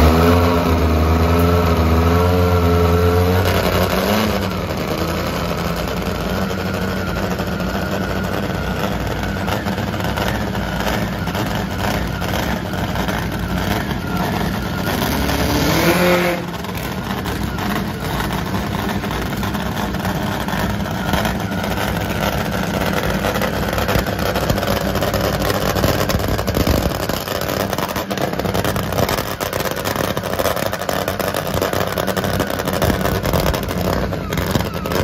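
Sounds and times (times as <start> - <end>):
drag motorcycle engine: 0.0 - 35.0.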